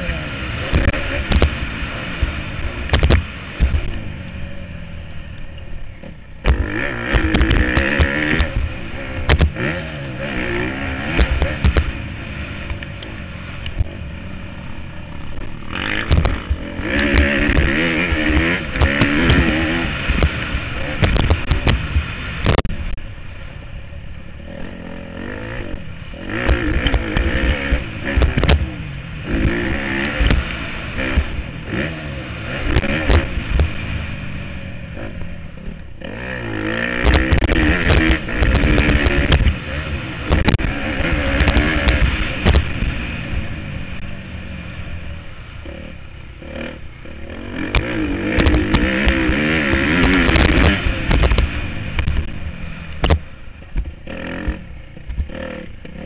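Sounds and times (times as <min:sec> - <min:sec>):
motocross engine revving: 0:00.0 - 0:23.1, 0:24.1 - 0:56.0.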